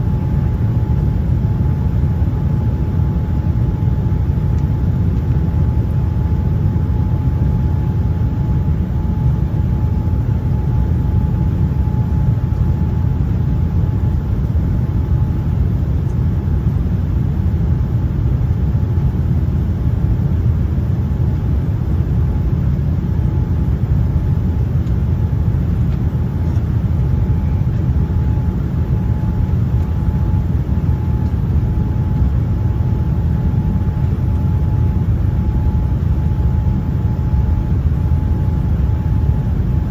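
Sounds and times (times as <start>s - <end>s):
airliner cabin rumble: 0.0s - 39.9s
faint steady engine whine: 0.0s - 39.9s.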